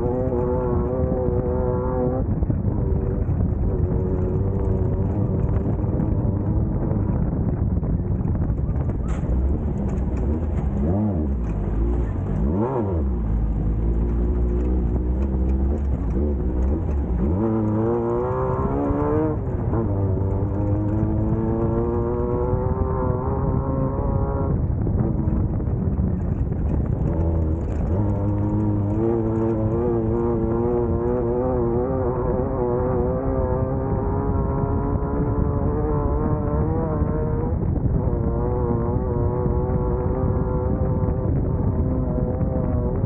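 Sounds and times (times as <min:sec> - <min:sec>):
buggy engine revving: 0:00.0 - 0:43.0.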